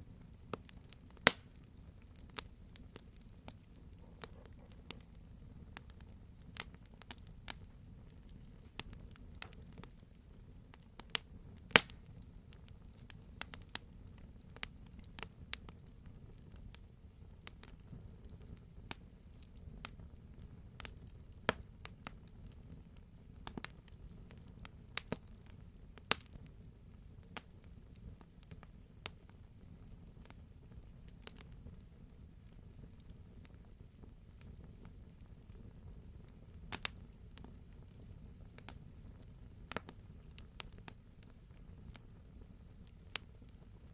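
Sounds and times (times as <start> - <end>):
campfire crackling and popping: 0.0 - 43.9
low rumble of burning logs: 0.0 - 43.9.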